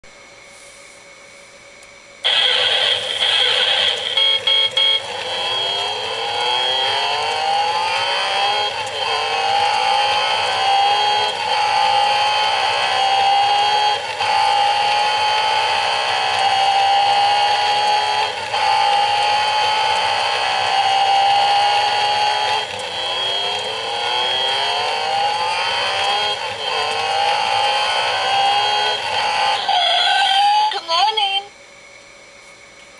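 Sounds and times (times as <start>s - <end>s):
racing engine revving through gears: 2.3s - 30.7s.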